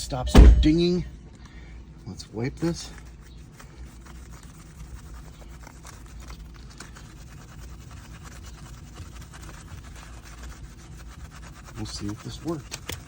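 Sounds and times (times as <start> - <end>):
steady low hum: 0.0 - 13.0
cloth rag rubbing on screen: 2.1 - 13.0.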